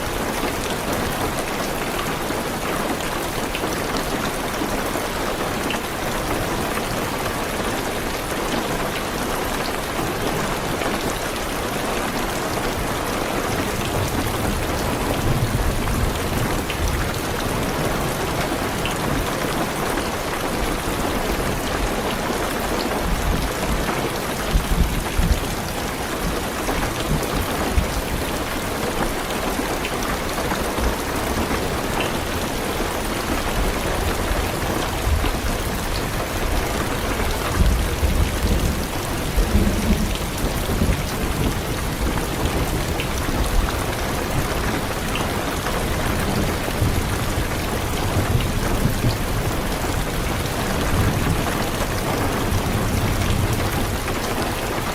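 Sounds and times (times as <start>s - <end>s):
heavy rain on car roof: 0.0s - 54.9s.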